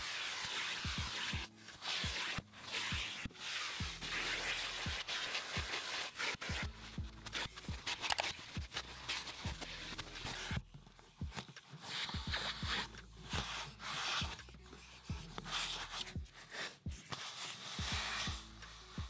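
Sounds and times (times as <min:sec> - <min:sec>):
background music with bass beat: 0:00.0 - 0:19.0.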